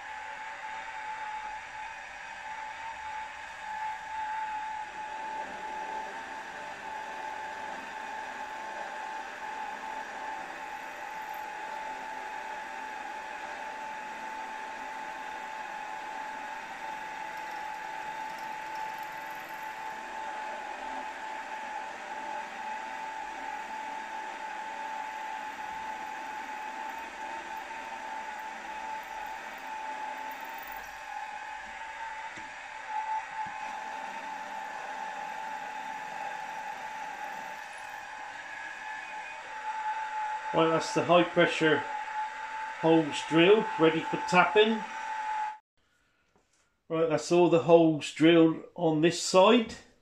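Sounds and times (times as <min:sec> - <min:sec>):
drilling machine whine: 0:00.0 - 0:45.6.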